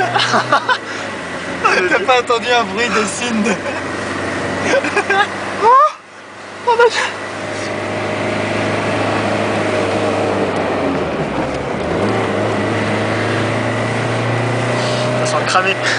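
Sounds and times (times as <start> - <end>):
diesel engine droning: 0.0 - 15.9.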